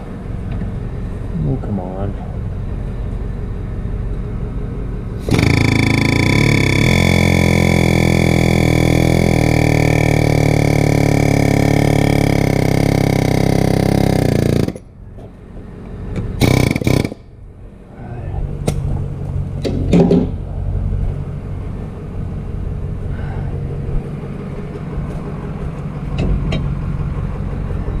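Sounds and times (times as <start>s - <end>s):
loud motor humming and whining: 0.0s - 28.0s.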